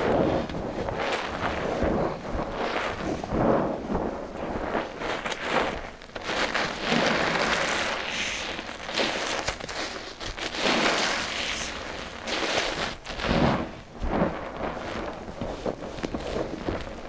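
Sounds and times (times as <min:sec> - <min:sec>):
sponge squelching with foam: 0:00.0 - 0:17.0.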